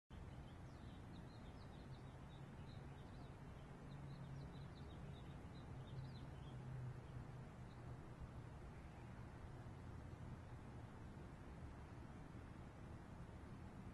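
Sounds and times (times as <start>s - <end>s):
small birds chirping: 0.1s - 12.6s
low steady hum: 0.1s - 13.9s.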